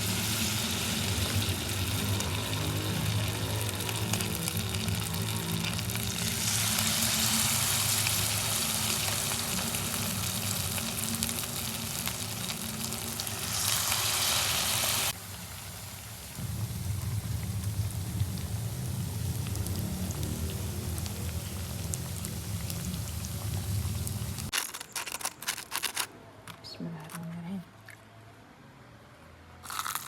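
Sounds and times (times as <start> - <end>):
tofu sizzling in hot oil: 0.0 - 24.5.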